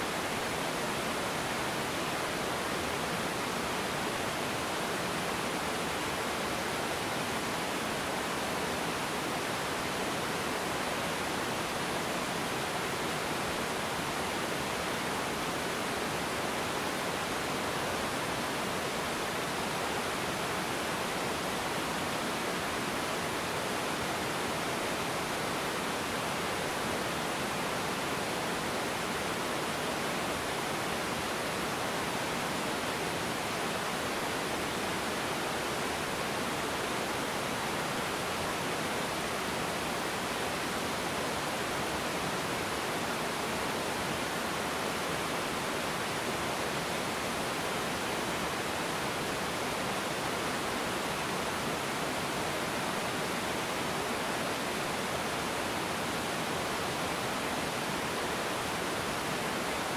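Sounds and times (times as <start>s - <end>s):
waterfall pouring over rocks: 0.0s - 59.9s.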